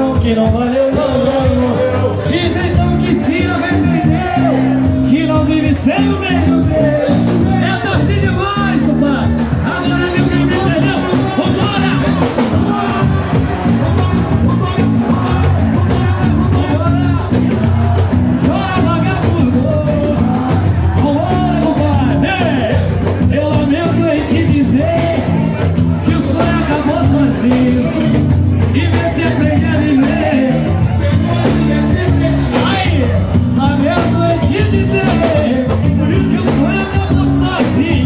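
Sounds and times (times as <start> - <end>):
samba band playing: 0.0 - 38.0
voices singing: 0.0 - 38.0.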